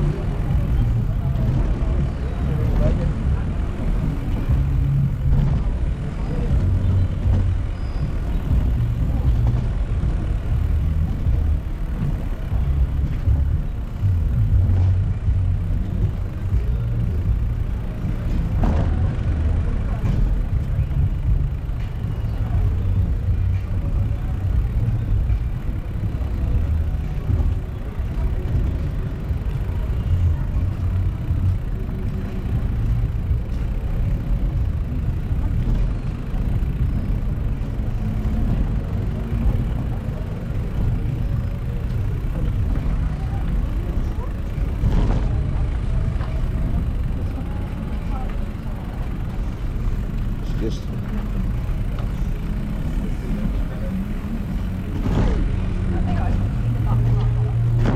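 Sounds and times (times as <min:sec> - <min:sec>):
road traffic rumble: 0:00.0 - 0:57.9.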